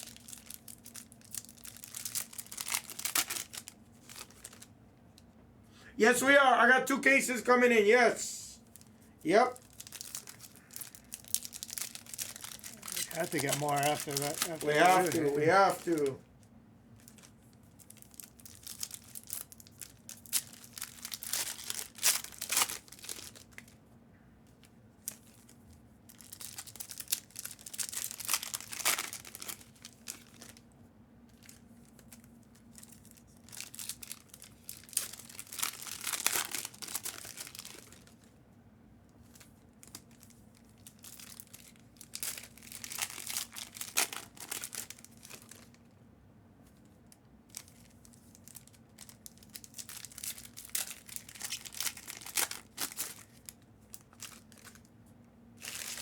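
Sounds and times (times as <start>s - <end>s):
wrappers torn open and crinkled: 0.0s - 4.7s, 8.6s - 16.2s, 16.9s - 23.8s, 25.0s - 30.7s, 31.3s - 38.4s, 39.2s - 45.9s, 47.4s - 54.9s, 55.6s - 56.0s.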